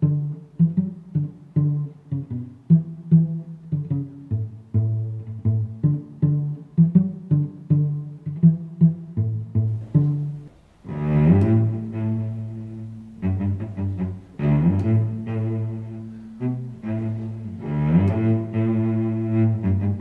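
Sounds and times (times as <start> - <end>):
low bowed strings music: 0.0 - 20.0.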